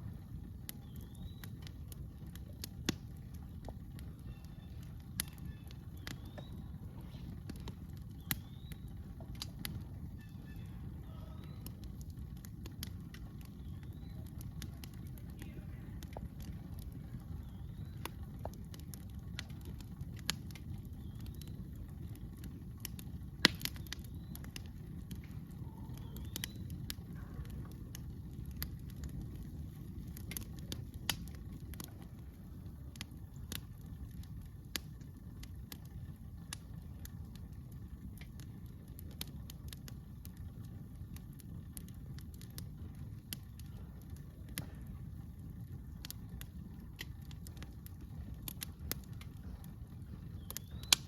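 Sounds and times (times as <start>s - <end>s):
campfire crackling and popping: 0.0s - 51.0s
low steady rumble: 0.0s - 51.0s.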